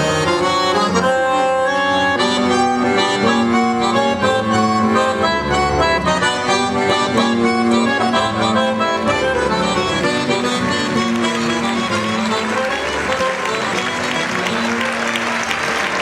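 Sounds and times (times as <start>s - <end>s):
folk melody on reed instrument: 0.0s - 16.0s.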